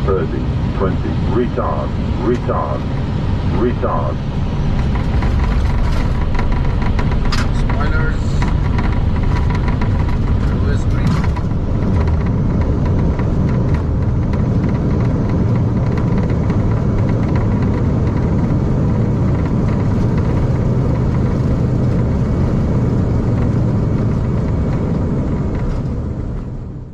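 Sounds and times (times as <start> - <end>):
airliner engines and runway rumble: 0.0 - 26.9.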